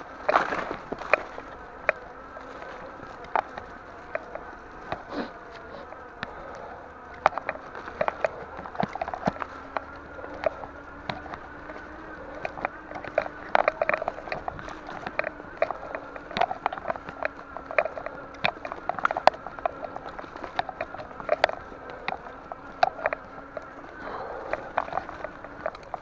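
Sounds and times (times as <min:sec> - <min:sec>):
bike rattling over bumps: 0:00.0 - 0:26.0
steady wavering hum: 0:00.0 - 0:26.0.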